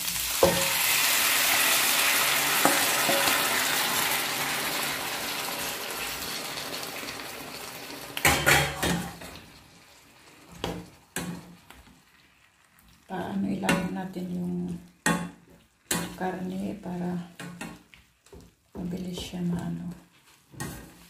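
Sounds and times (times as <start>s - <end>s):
meat sizzling in frying pan: 0.0s - 18.6s.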